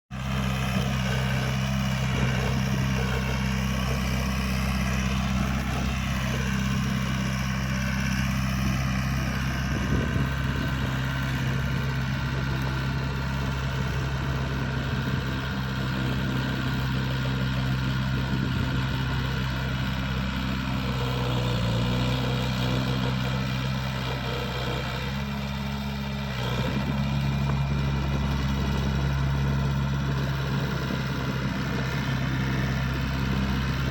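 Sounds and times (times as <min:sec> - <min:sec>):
bulldozer diesel engine running: 0:00.1 - 0:33.9.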